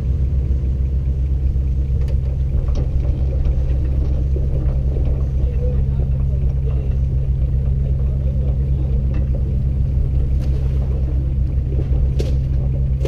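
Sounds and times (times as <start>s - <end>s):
off-road vehicle engine running low: 0.0s - 13.0s.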